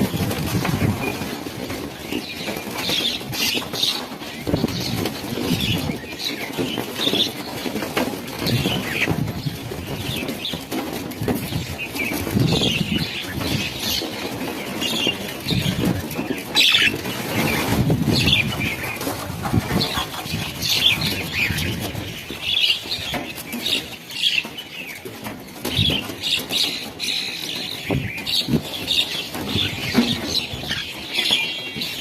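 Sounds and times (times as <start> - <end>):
birds chirping: 0.0 - 32.0
flock of birds wingbeats: 0.0 - 32.0.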